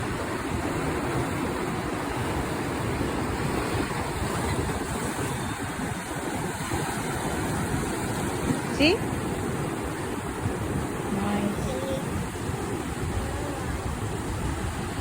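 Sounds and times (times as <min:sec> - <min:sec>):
ocean surf rushing: 0:00.0 - 0:15.0
wind buffeting microphone: 0:00.0 - 0:15.0.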